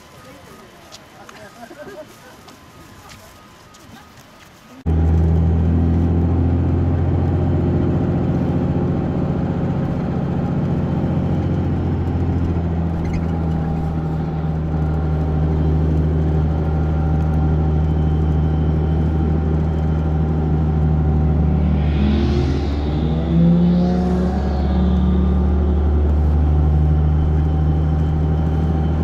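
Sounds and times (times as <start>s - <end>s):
road noise: 0.0s - 29.0s
low engine hum: 4.9s - 29.0s.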